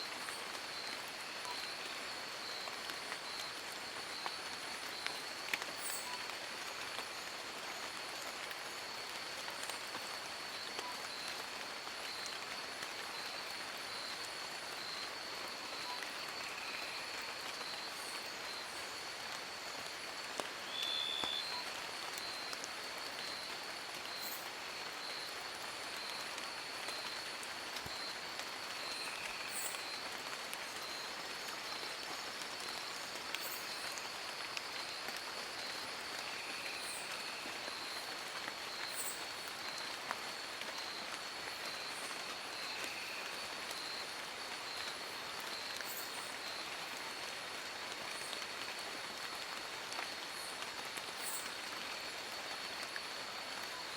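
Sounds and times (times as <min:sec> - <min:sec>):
rain on leaves: 0:00.0 - 0:53.9.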